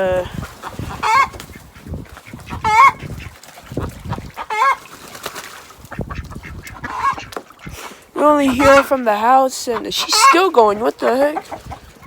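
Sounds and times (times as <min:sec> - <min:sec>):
hen clucking softly: 0:00.3 - 0:04.9, 0:05.8 - 0:07.8, 0:08.4 - 0:12.0
hen squawking: 0:00.6 - 0:04.9, 0:05.9 - 0:12.0.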